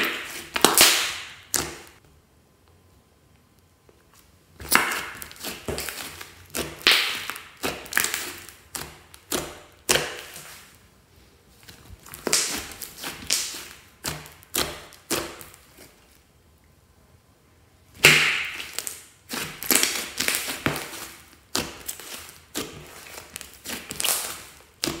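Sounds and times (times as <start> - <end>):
slime squelching by hand: 0.0 - 2.0, 4.6 - 16.4, 17.9 - 25.0.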